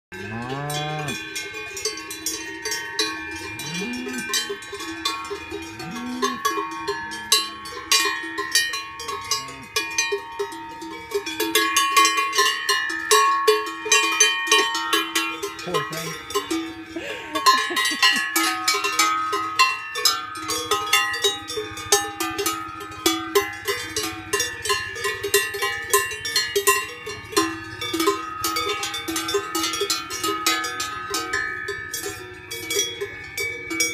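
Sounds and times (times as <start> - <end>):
cowbells clanking: 0.1 - 33.9.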